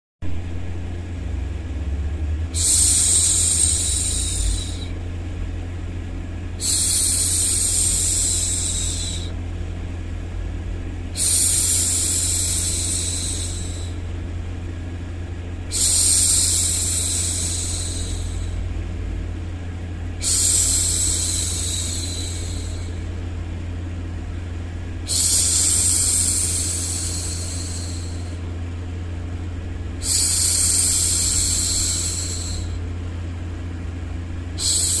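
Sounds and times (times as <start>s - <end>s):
low white-noise hum: 0.2s - 35.0s.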